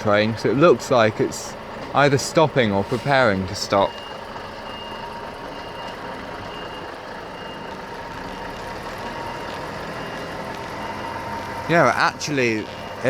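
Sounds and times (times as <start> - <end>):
diesel engines rumbling: 0.0 - 13.0
level crossing warning alarm: 0.1 - 13.0.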